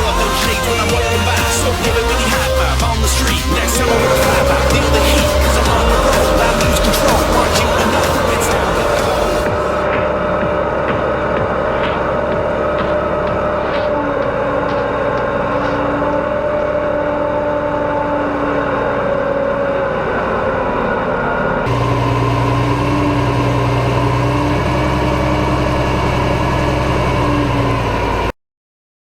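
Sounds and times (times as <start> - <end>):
tractor diesel engine running: 0.0 - 28.3.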